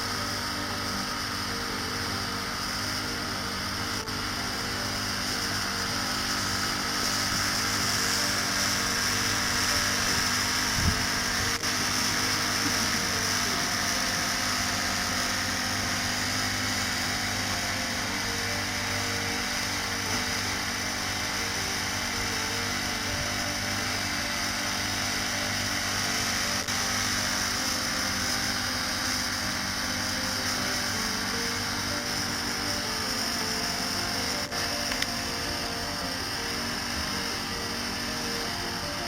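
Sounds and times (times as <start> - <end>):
small petrol engine running: 0.0 - 39.0.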